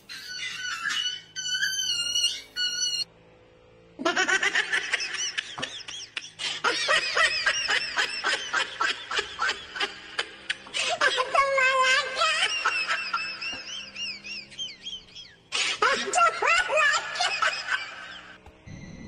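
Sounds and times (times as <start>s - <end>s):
high-pitched giggling laughter: 0.0s - 3.1s, 4.0s - 18.4s.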